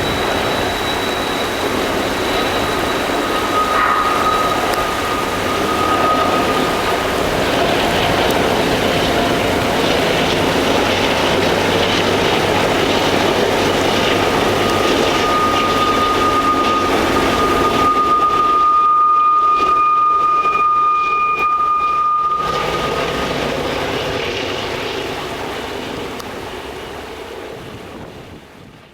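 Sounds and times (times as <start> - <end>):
train wheels on rails: 0.0 - 20.9, 21.6 - 28.9
thin high whine: 0.0 - 27.4.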